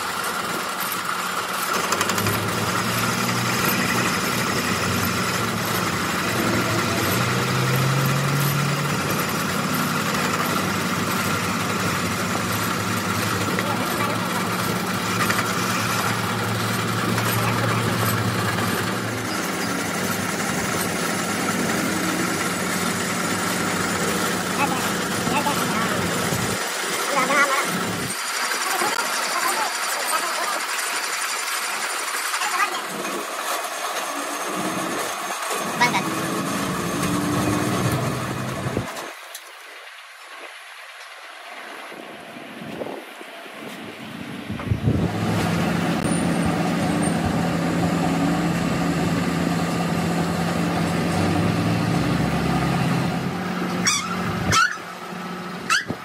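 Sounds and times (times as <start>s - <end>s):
lathe machine hum: 0.0s - 39.9s, 43.3s - 56.0s.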